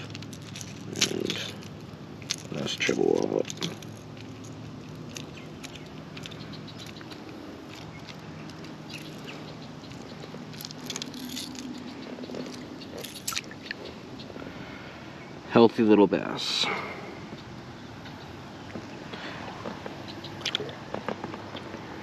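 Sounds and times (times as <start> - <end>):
distant road traffic drone: 0.0 - 22.0.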